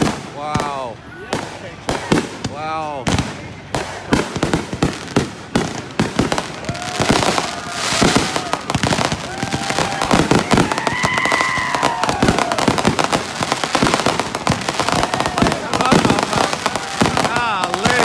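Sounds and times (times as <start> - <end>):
fireworks banging and crackling: 0.0 - 18.0
whistling firework shots: 0.0 - 18.0.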